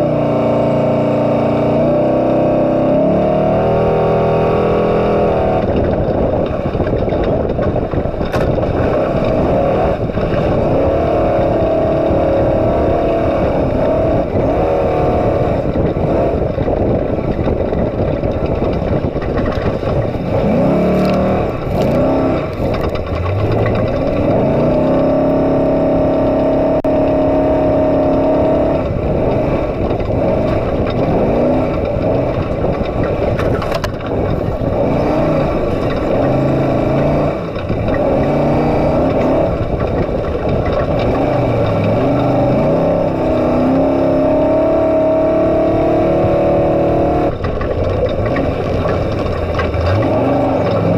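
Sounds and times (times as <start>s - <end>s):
truck engine running hard: 0.0s - 50.9s
tyre and wind noise: 0.0s - 50.9s.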